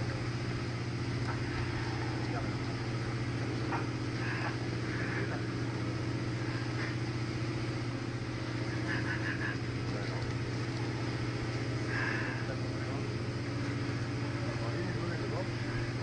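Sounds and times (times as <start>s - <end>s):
machine engine droning: 0.0s - 16.0s.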